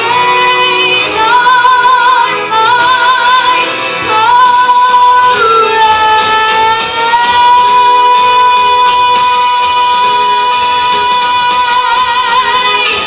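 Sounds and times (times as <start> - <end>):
instrumental backing music: 0.0 - 13.0
woman singing with vibrato: 0.0 - 13.0.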